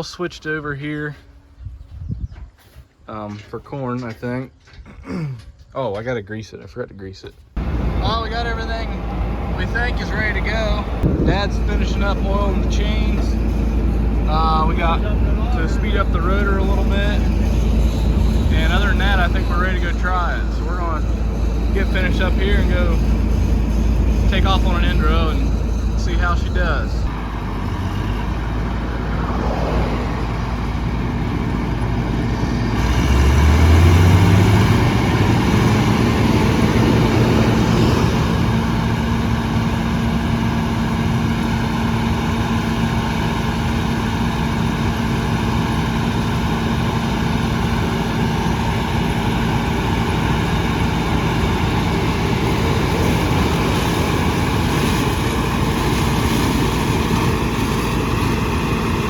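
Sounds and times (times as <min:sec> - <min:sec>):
combine harvester running: 0:07.6 - 0:59.0.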